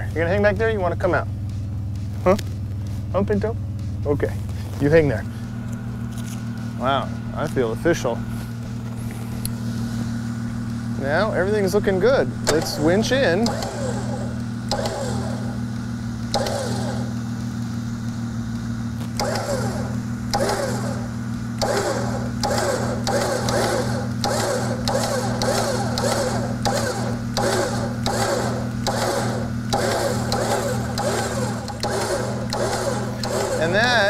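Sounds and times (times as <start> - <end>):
electric winch motor pulsing: 2.1 - 34.0.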